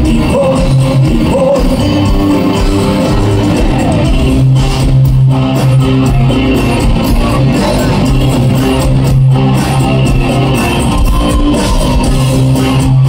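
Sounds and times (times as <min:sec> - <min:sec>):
drum kit: 0:00.0 - 0:13.0
electric guitars strumming: 0:00.0 - 0:13.0.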